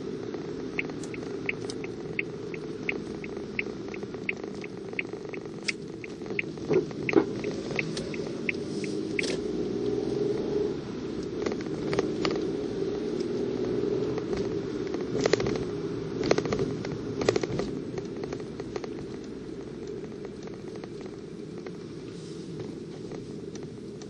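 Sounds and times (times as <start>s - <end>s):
road and engine noise: 0.0s - 24.0s
turn signal ticking: 0.0s - 24.0s.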